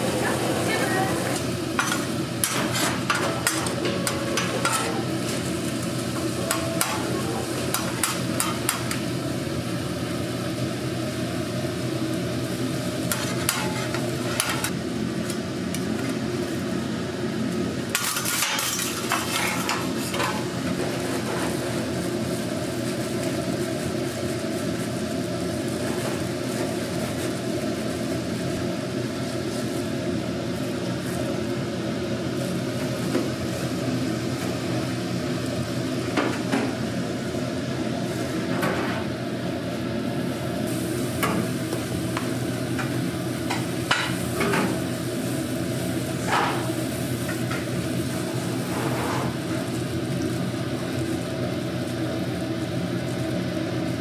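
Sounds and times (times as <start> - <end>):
meat frying on griddle: 0.0 - 54.0
steady hum: 0.0 - 54.0.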